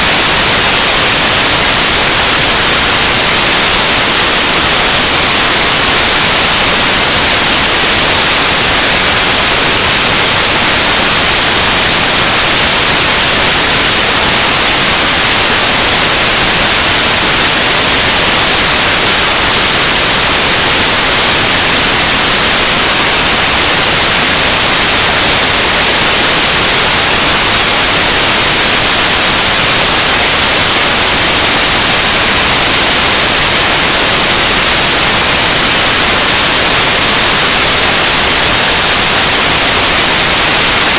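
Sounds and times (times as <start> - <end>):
static hiss noise music: 0.0 - 40.9.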